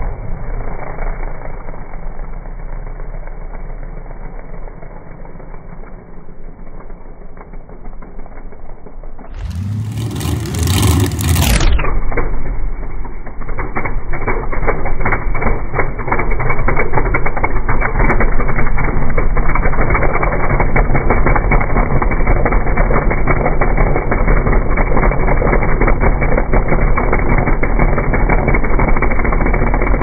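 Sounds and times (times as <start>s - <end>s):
another engine running: 0.0s - 30.0s
truck engine idling: 3.0s - 30.0s.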